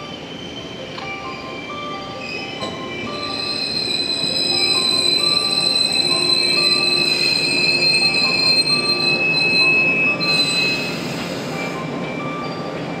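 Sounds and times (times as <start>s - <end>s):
train running gear rumble: 0.0s - 13.0s
train wheels squealing on rails: 0.0s - 13.0s.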